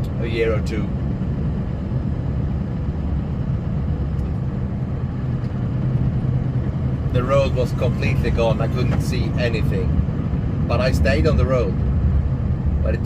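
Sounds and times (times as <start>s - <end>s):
road and snow noise: 0.0s - 13.0s
snowplow engine drone: 0.0s - 13.0s.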